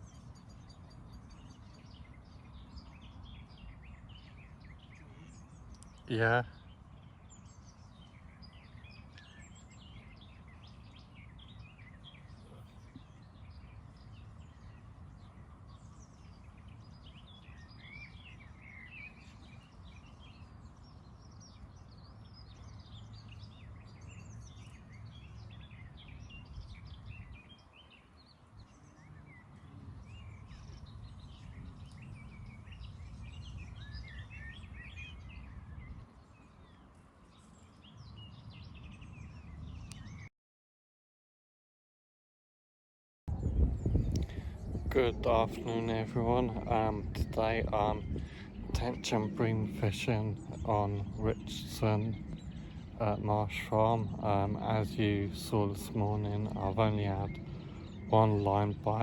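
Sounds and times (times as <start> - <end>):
birds chirping and singing: 0.0 - 40.3, 43.3 - 59.0.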